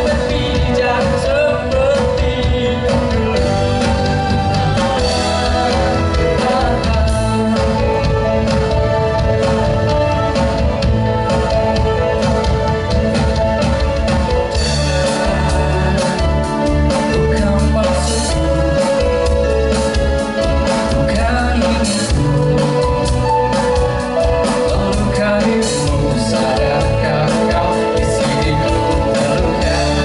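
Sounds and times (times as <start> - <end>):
person singing: 0.0 - 30.0
rock band playing: 0.0 - 30.0.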